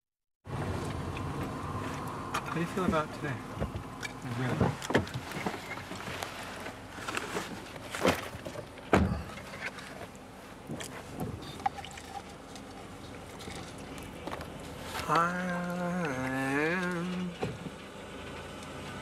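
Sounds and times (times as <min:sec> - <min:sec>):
road noise rumble: 0:00.4 - 0:19.0
car knocks and rattles: 0:00.5 - 0:12.2, 0:13.2 - 0:17.8.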